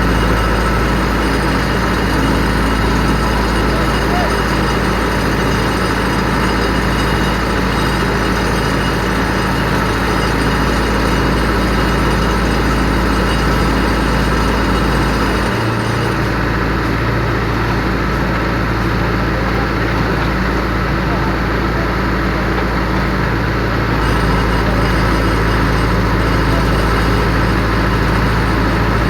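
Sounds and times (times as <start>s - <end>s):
piling rig engine humming: 0.0s - 29.0s.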